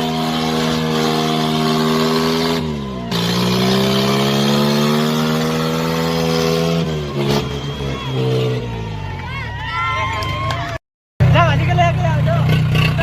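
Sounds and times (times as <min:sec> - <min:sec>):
tractor diesel engine revving: 0:00.0 - 0:09.1, 0:11.2 - 0:13.0.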